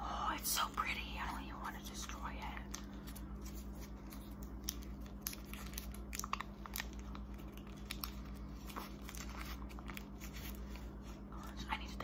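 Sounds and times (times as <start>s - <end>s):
steady low hum: 0.0s - 12.0s
candy chewing and crunching: 0.3s - 12.0s.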